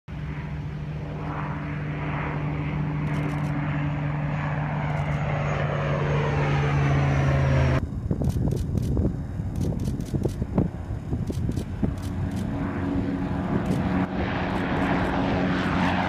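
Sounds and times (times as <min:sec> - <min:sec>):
high turbine whine: 0:00.1 - 0:16.0
propeller aircraft hum: 0:00.1 - 0:16.0.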